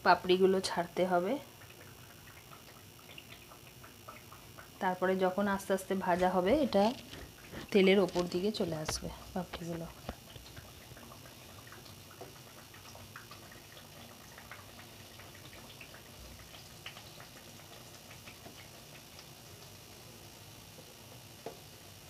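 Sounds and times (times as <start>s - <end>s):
dough crisps sizzling in oil: 0.0s - 22.0s
frying oil crackles and pops: 0.0s - 22.0s.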